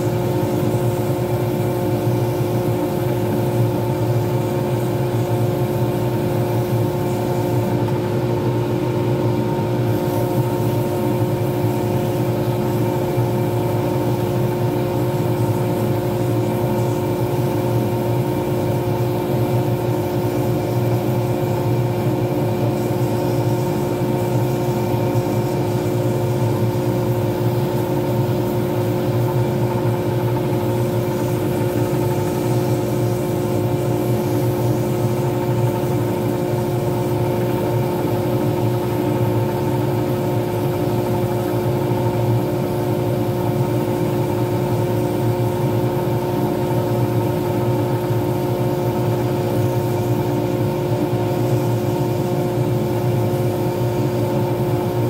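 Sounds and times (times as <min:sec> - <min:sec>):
lathe motor humming: 0:00.0 - 0:55.0.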